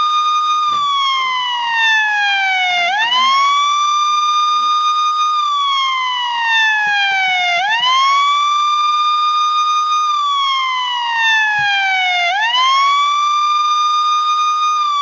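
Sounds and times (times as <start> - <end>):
police car siren wailing: 0.0 - 15.0.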